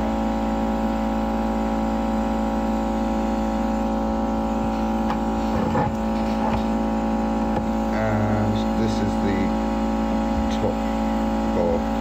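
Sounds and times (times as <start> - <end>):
hot air gun blower humming: 0.0 - 12.0.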